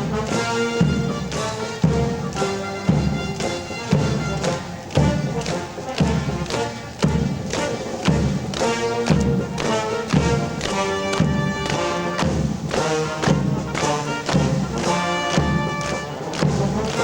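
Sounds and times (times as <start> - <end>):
military band playing a march: 0.0 - 17.0.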